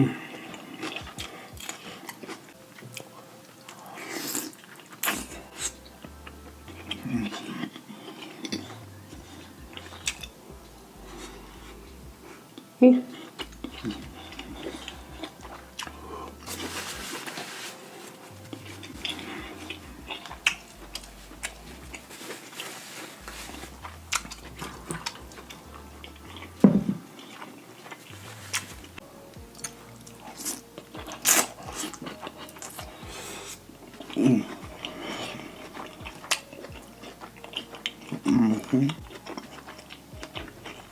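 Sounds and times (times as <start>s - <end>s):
biting and chewing seafood: 0.0s - 40.9s.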